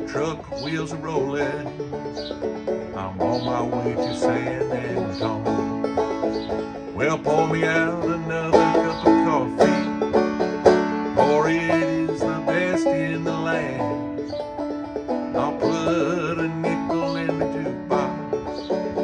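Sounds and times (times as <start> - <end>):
banjo plucking and strumming: 0.0 - 19.0.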